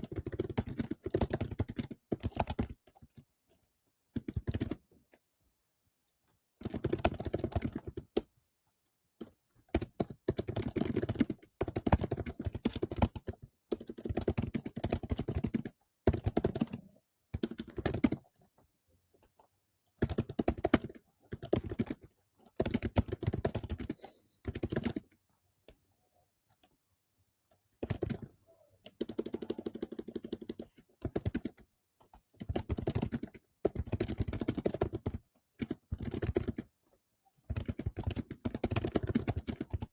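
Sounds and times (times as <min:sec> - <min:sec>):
keyboard typing: 0:00.0 - 0:03.3, 0:04.2 - 0:04.9, 0:06.6 - 0:08.3, 0:09.2 - 0:18.5, 0:19.2 - 0:25.8, 0:27.7 - 0:36.8, 0:37.5 - 0:39.9.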